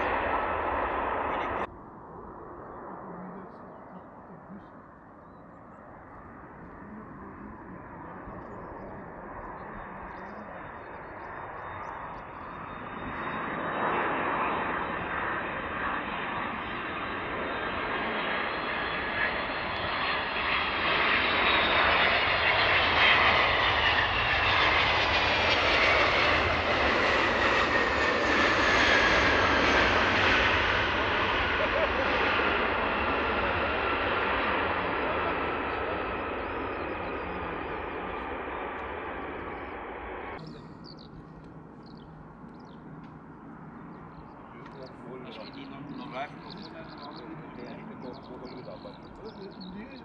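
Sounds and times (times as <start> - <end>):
jet airliner landing: 0.0 - 50.0.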